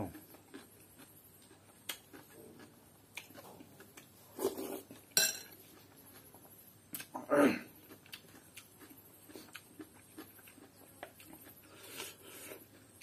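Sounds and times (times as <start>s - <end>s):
mouth eating sounds: 0.0s - 5.1s, 6.9s - 13.0s.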